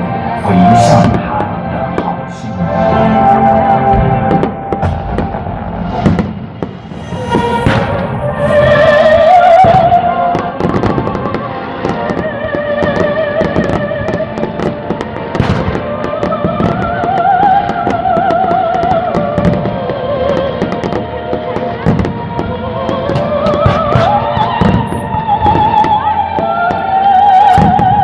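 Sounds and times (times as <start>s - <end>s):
loud show music: 0.0s - 28.0s
fireworks bursting and crackling: 3.9s - 28.0s.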